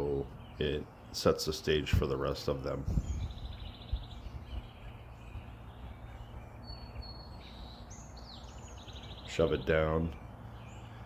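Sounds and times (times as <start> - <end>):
low outdoor rumble: 0.0 - 11.0
songbirds calling: 0.0 - 11.0.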